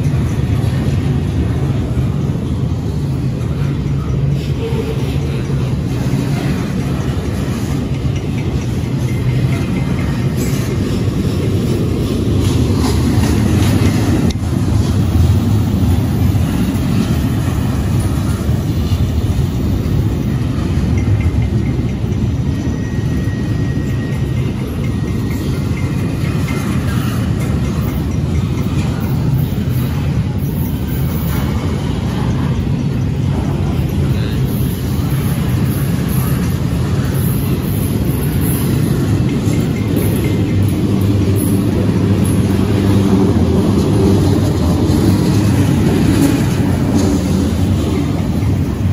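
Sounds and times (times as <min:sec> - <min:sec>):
steel wheels rumbling on rail: 0:00.0 - 0:48.9
train cars knocking: 0:00.0 - 0:48.9.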